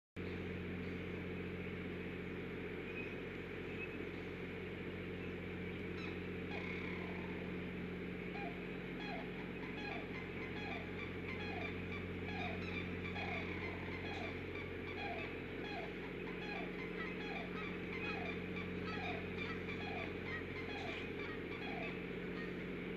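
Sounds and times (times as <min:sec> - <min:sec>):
electrical hum and hiss: 0:00.2 - 0:22.9
faint short calls dipping in pitch: 0:02.8 - 0:22.6.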